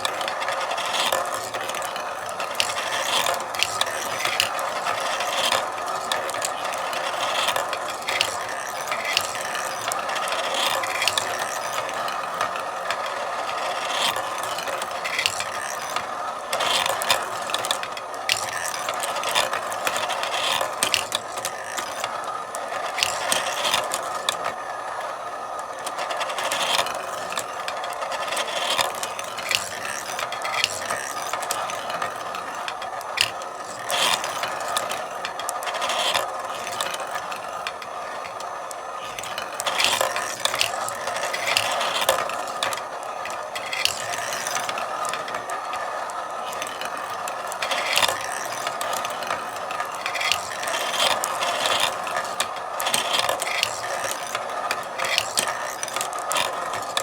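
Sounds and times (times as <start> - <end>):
marbles rolling through a marble run: 0.0 - 57.0.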